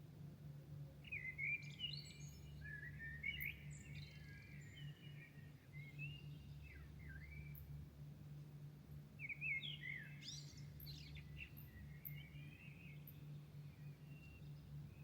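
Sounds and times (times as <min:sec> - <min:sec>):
songbirds singing: 0:01.0 - 0:07.8, 0:09.0 - 0:15.0.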